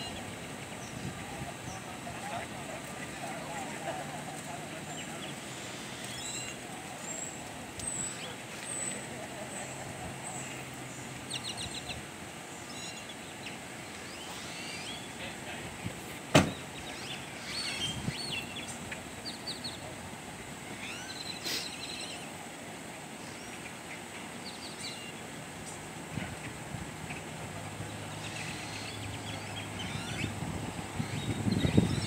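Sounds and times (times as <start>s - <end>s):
birds chirping: 0.0s - 15.6s, 16.4s - 20.0s, 20.7s - 22.4s, 23.2s - 32.0s
outdoor background hiss: 0.0s - 32.0s.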